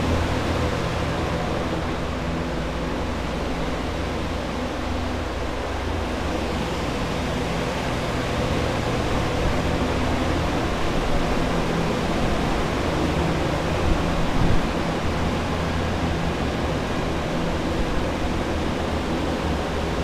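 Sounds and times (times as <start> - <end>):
rush of air from fans: 0.0 - 20.0.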